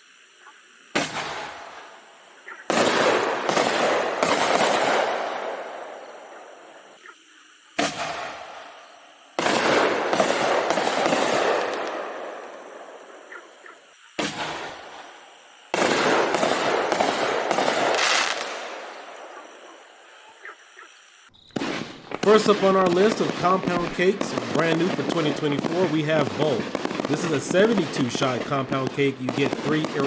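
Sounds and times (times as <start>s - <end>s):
firework sharp cracks: 0.8s - 7.1s, 7.7s - 20.1s, 21.4s - 30.0s
firework booms: 0.9s - 2.0s, 2.7s - 6.9s, 7.8s - 13.6s, 14.2s - 19.6s, 21.4s - 30.0s
firework crackle: 0.9s - 6.7s, 7.8s - 20.0s, 21.4s - 30.0s.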